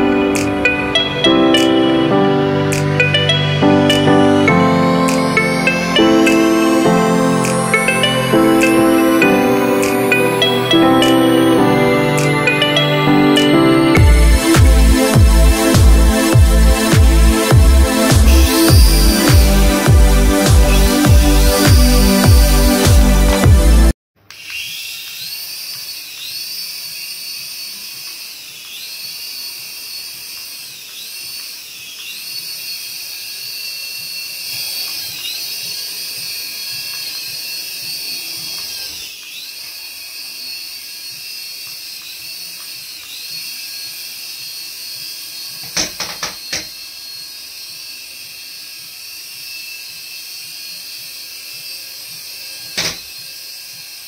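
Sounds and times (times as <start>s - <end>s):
toy helicopter motors whining: 2.7s - 23.4s, 24.2s - 54.0s.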